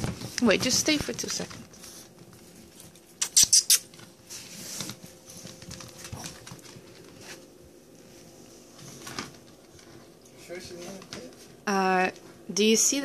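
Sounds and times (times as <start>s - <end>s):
dog paws pattering on tile: 0.0s - 12.3s.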